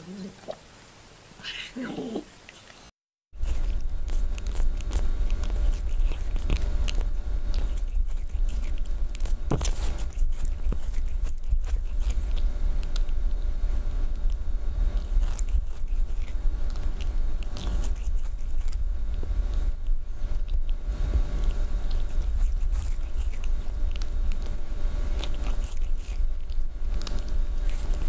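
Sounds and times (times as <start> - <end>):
cat licking and nibbling fur: 2.4 - 28.0
steady low rumble: 3.4 - 28.0.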